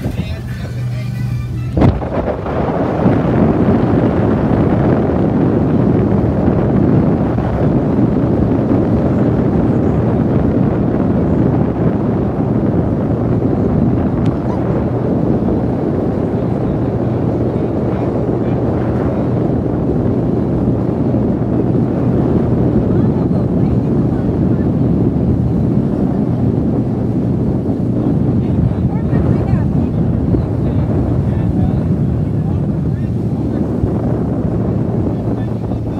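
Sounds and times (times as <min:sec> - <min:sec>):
boat motor humming: 0:00.0 - 0:35.9
wind buffeting microphone: 0:00.0 - 0:35.9.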